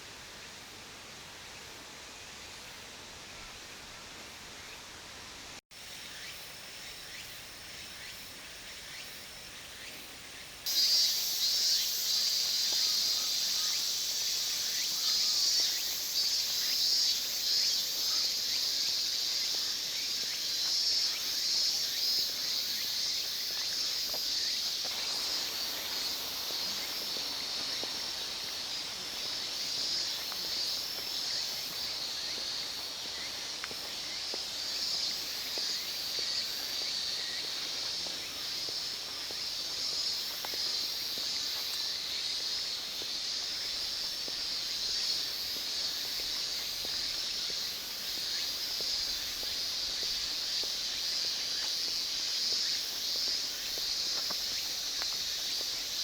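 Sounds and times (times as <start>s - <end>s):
outdoor hiss: 0.0s - 56.0s
insects chirping: 5.8s - 56.0s.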